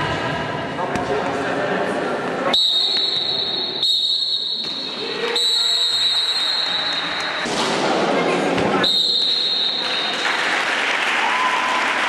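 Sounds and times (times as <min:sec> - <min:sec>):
sports hall background noise: 0:00.0 - 0:12.0.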